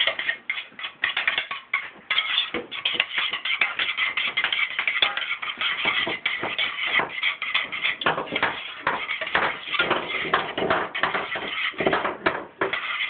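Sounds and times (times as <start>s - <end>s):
utensil scraping a steel pot: 0.0s - 13.0s.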